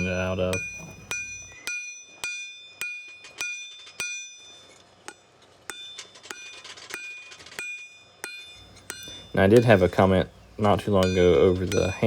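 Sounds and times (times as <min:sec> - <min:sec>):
hammer striking steel on anvil: 0:00.0 - 0:12.0.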